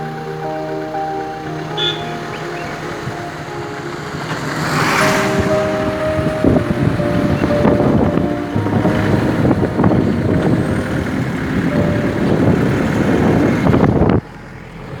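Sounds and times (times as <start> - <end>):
road noise: 0.0 - 15.0
vehicle engine: 0.0 - 15.0.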